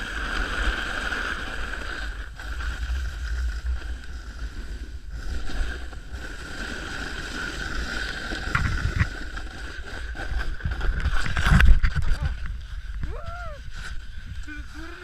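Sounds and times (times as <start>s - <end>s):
snowboard scraping over snow: 0.0s - 15.0s
wind rumble on microphone: 0.0s - 15.0s.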